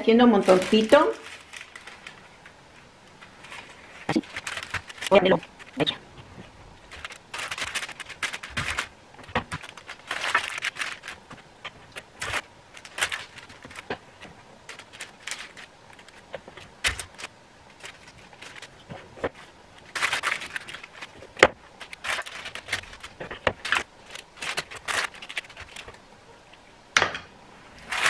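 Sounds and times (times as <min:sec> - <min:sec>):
parchment paper rustling: 0:00.0 - 0:26.4, 0:27.8 - 0:28.0.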